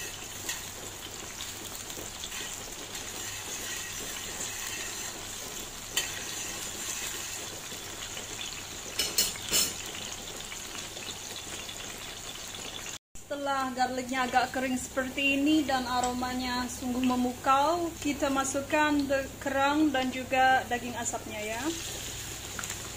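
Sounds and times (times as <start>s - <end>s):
garlic and chili sizzling in oil: 0.0s - 22.9s.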